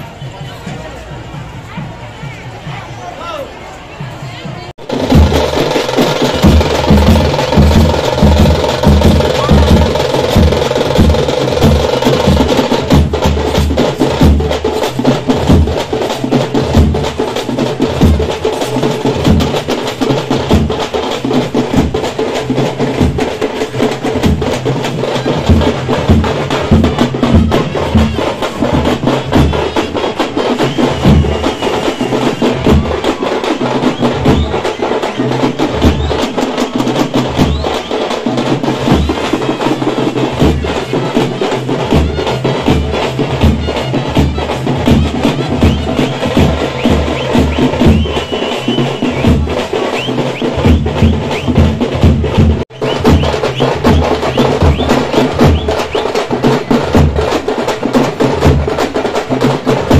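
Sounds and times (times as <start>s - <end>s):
frame drums beaten with sticks: 0.0s - 59.9s.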